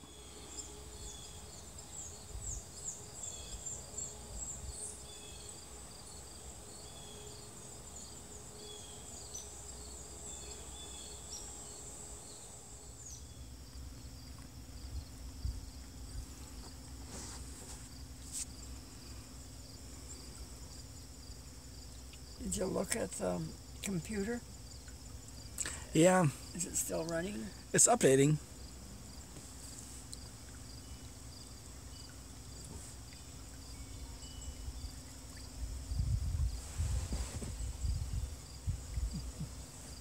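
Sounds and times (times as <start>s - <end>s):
insects buzzing: 0.0s - 40.0s
steady low hum: 0.0s - 40.0s.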